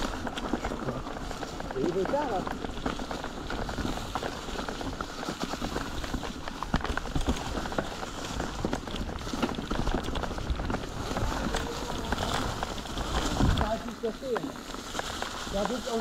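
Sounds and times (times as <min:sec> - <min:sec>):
bike clicks and rattles: 0:00.0 - 0:16.0
bike tyres rolling over stones: 0:00.0 - 0:16.0
wind rumble on microphone: 0:00.0 - 0:16.0.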